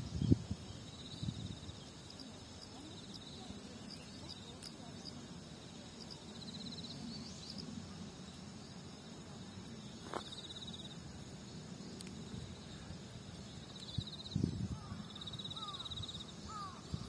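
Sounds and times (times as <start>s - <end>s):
insect trills: 0.0s - 17.0s
low outdoor background hum: 0.0s - 17.0s.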